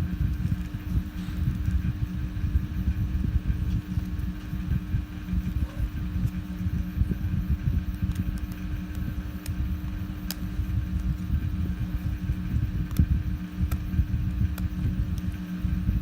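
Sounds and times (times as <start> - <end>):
low rumble: 0.0 - 16.0
mechanical hum: 0.0 - 16.0.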